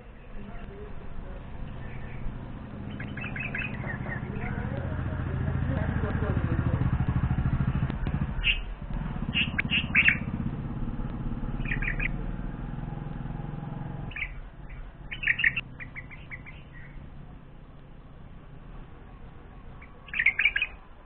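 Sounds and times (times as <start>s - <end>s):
bulbuls chirping: 0.0s - 21.0s
low engine hum: 0.0s - 21.0s.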